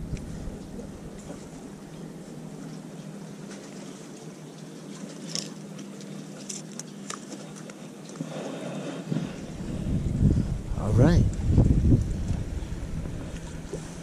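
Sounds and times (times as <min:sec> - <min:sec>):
soft outdoor noise: 0:00.0 - 0:14.0
steady low hum: 0:00.0 - 0:14.0.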